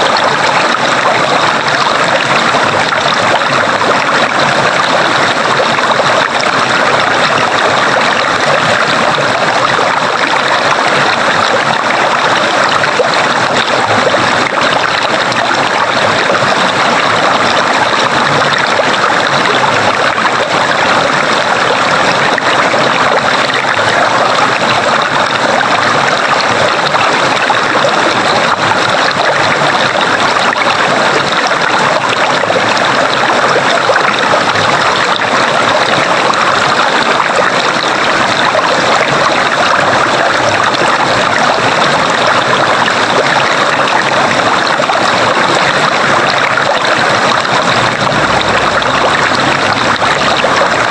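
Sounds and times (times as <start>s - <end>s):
stream of running water: 0.0s - 50.9s.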